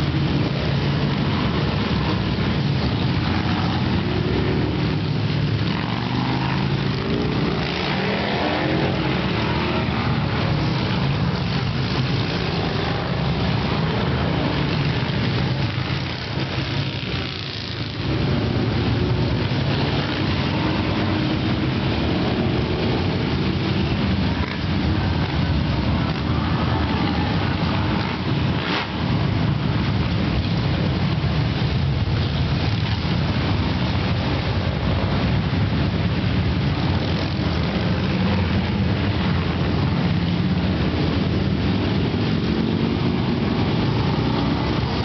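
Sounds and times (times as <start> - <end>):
motorcycles riding past: 0.0 - 45.0.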